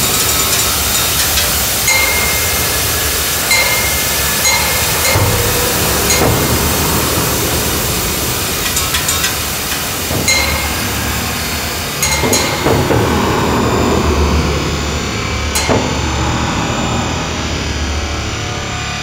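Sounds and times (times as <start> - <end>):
sharp metallic hits ringing: 0.0 - 17.8
harsh metallic scraping: 0.0 - 18.1
low drone chord: 1.8 - 19.0.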